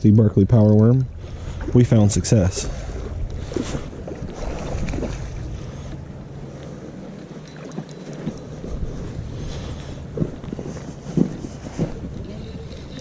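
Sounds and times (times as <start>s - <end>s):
creek water running: 0.0s - 13.0s
wind buffeting microphone: 0.0s - 13.0s.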